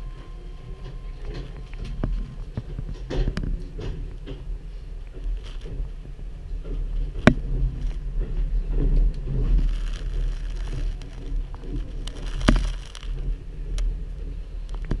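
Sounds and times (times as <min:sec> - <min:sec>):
train low rumble: 0:00.0 - 0:15.0
wheels clacking over rails: 0:00.0 - 0:15.0.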